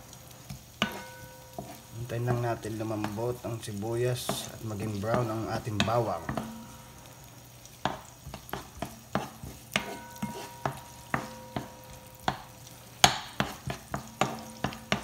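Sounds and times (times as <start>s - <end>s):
faint oil sizzle: 0.0s - 15.0s
wooden spoon scraping a pan: 0.4s - 7.0s, 7.7s - 15.0s.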